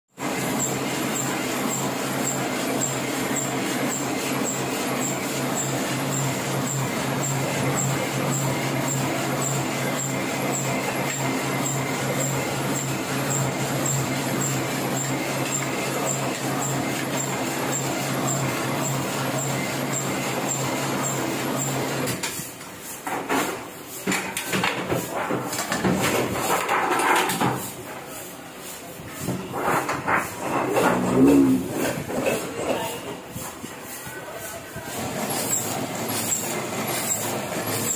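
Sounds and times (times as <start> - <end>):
printing press humming: 0.2 - 34.0, 34.6 - 37.9.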